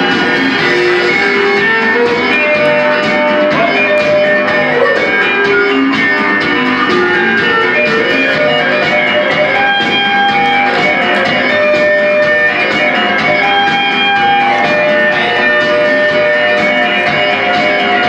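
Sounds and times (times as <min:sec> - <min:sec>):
plucked guitar melody: 0:00.0 - 0:18.0
steady beat: 0:00.0 - 0:18.0.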